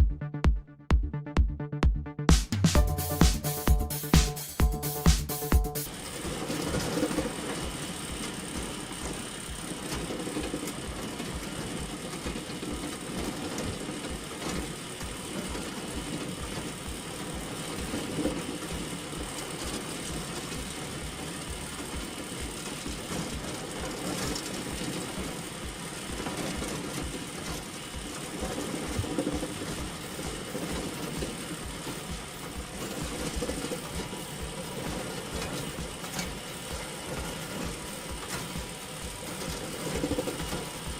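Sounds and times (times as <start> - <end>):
machine engine running: 0.0 - 40.9.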